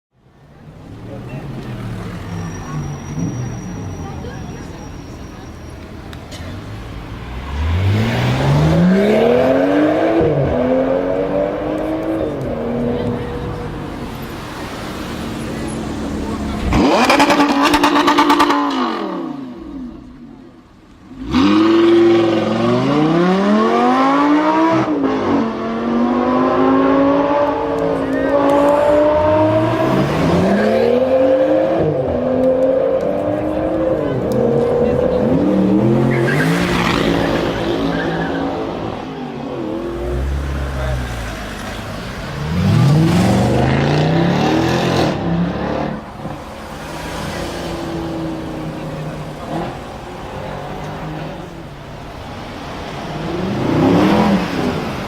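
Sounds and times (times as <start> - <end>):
sports car engine revving: 6.7 - 13.7, 14.6 - 19.9, 21.1 - 55.0.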